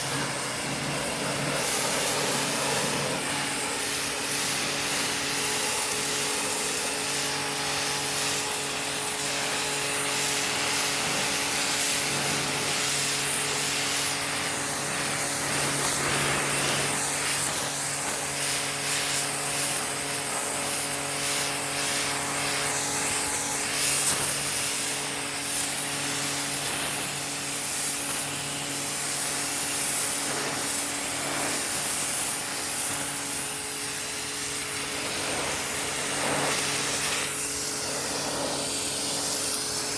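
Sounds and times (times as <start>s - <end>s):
pressure washer motor humming: 0.0s - 39.9s
water jet spraying on stone: 0.0s - 39.9s.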